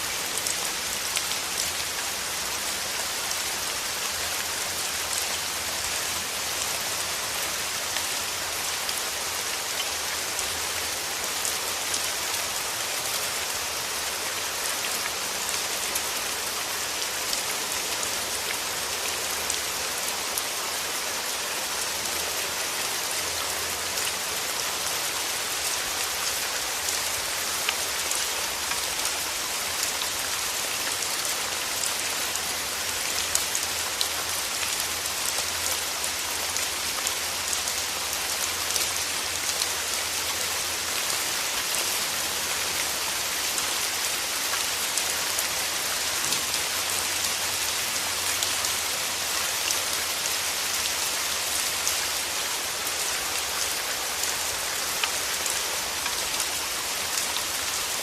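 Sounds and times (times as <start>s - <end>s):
rain falling through trees: 0.0s - 58.0s.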